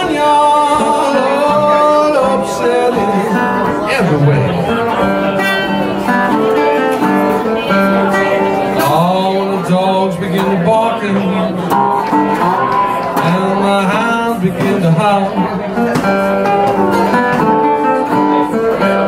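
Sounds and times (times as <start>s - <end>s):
resonator guitar blues: 0.0s - 19.0s.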